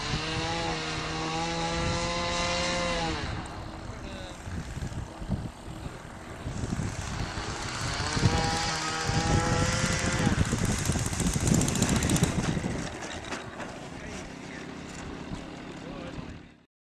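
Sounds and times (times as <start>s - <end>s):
model plane engine: 0.0s - 16.7s.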